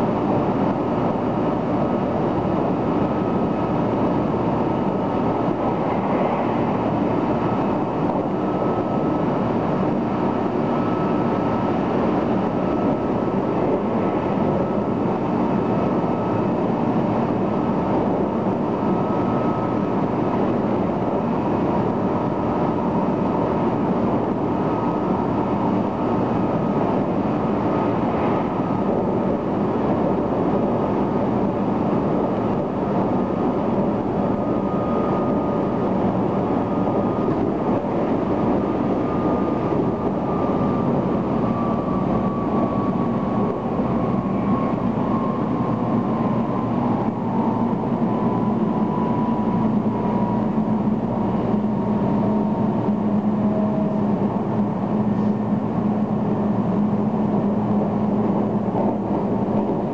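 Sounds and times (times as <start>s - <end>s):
faint whine falling in pitch: 0.1s - 59.9s.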